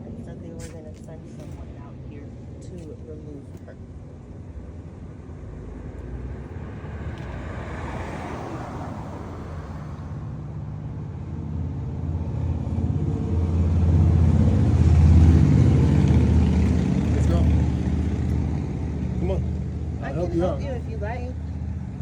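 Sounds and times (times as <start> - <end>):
car passing: 0.0 - 22.0
engine running with low hum: 0.0 - 22.0.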